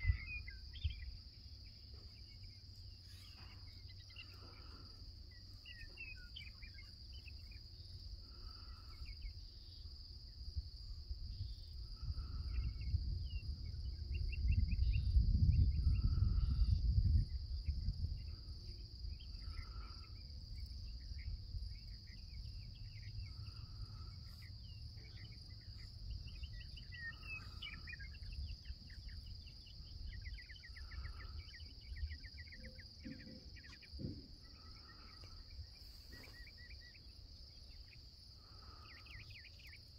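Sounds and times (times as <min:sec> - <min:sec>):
insects chirping trills: 0:00.0 - 0:39.9
insects droning: 0:00.0 - 0:39.9.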